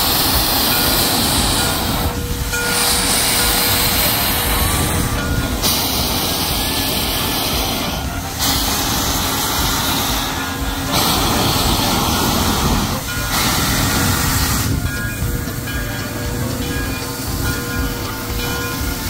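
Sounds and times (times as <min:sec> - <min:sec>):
locomotive running gear rumble: 0:00.0 - 0:19.0
loud hissing steam: 0:00.0 - 0:19.0.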